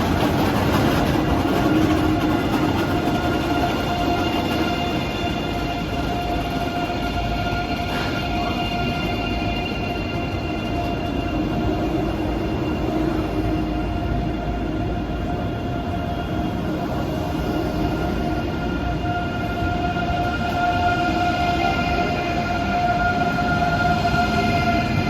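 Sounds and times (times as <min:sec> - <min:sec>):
electric train whine: 0:00.0 - 0:25.0
low rumble of train: 0:00.0 - 0:25.0.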